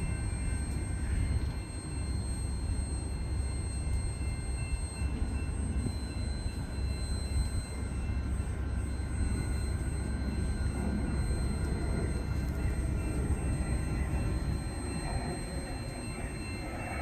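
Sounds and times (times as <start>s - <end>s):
faint high-pitched tones: 0.0s - 17.0s
steel wheels rumbling on rail: 0.0s - 17.0s.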